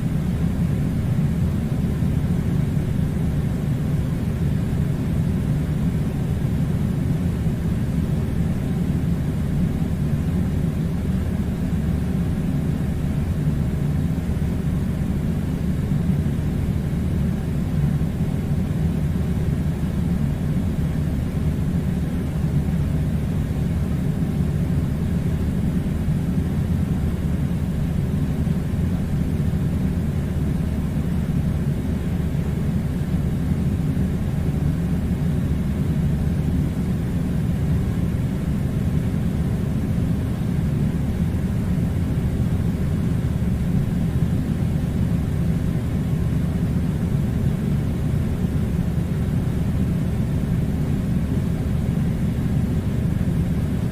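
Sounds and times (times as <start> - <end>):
air conditioner running: 0.0 - 53.9.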